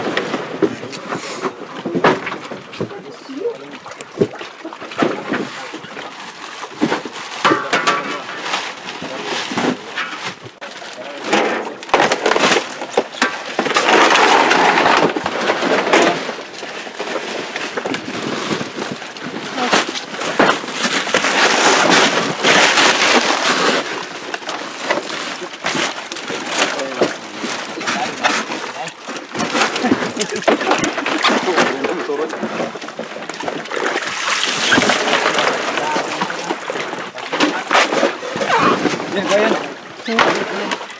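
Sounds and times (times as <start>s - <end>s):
rustling and splashing: 0.0s - 40.9s
fish dropped into plastic crates: 6.8s - 40.9s.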